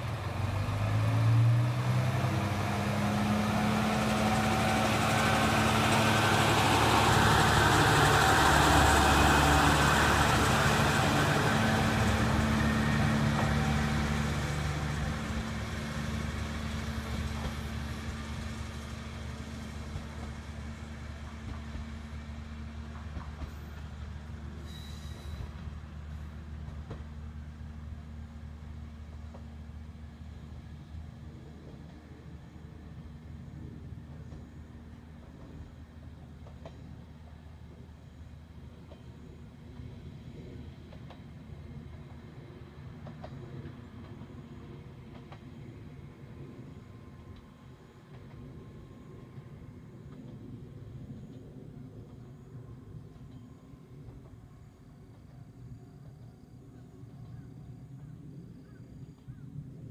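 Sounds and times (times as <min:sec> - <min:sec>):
diesel railcar engine revving: 0:00.0 - 0:53.3
train wheel noise: 0:00.0 - 0:59.9.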